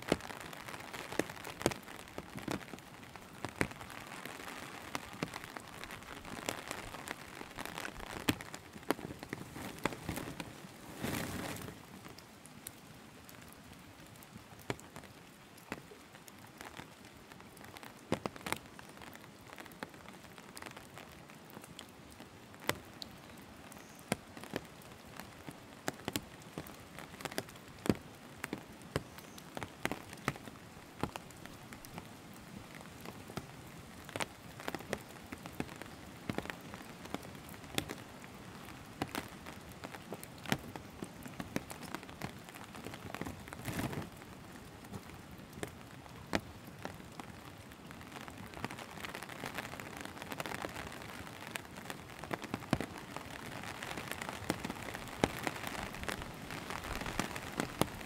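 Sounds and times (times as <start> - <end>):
raindrops tapping: 0.0 - 13.5, 14.1 - 58.0
light rain falling: 0.0 - 58.0.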